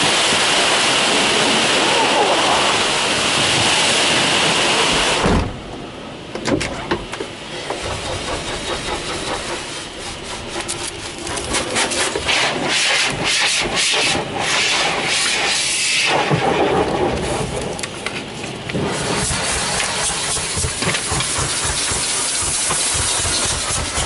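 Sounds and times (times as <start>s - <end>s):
water spraying against truck cab: 0.0s - 6.2s, 7.3s - 16.6s, 18.2s - 24.0s.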